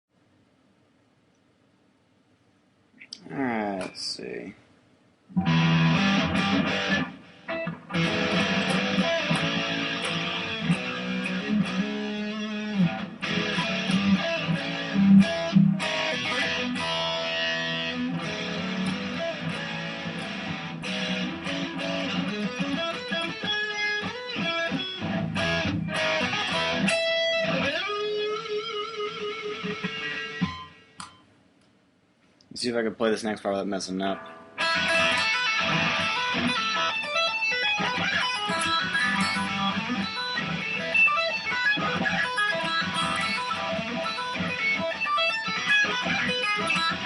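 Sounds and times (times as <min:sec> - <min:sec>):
electric guitar picked notes: 0:05.3 - 0:31.2, 0:34.0 - 0:47.0.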